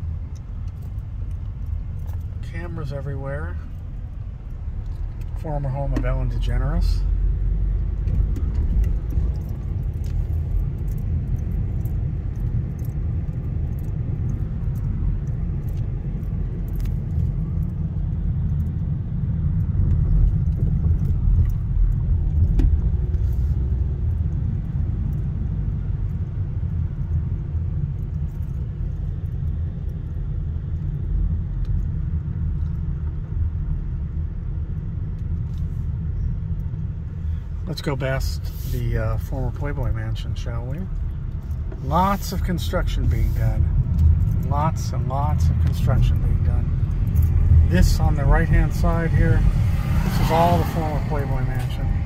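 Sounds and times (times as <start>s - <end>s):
car driving slowly interior rumble: 0.0s - 52.0s.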